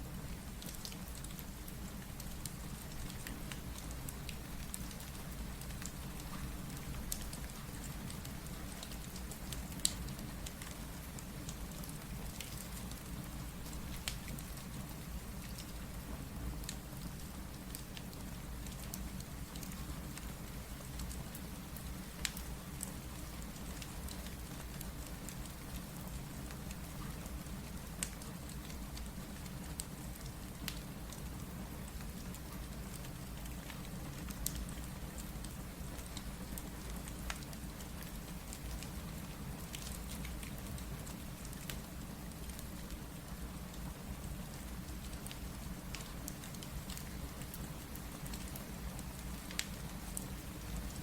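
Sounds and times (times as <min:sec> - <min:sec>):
rain: 0:00.0 - 0:51.0
wood fire crackling: 0:00.3 - 0:16.0, 0:16.6 - 0:51.0.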